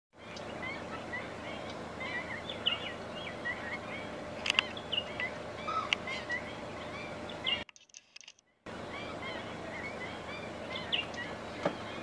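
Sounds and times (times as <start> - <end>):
chorus of bird calls: 0.2 - 7.7, 8.3 - 12.0.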